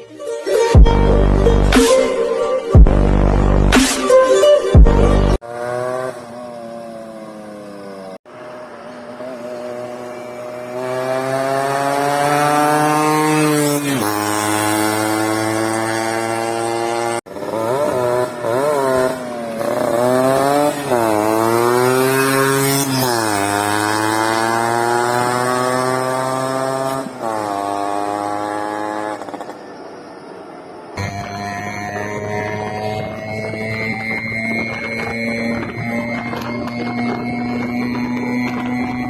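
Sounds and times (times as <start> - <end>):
motorcycle engine revving: 2.7 - 39.0.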